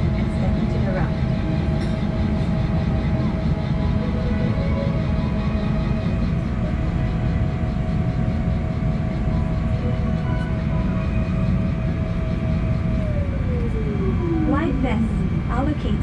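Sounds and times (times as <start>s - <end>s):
aircraft cabin low rumble: 0.0s - 16.0s
steady engine whine: 0.0s - 16.0s.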